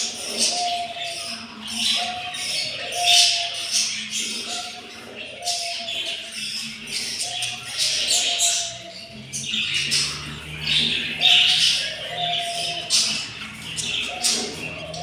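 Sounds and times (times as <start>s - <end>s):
budgies chattering and squawking: 0.0s - 15.0s.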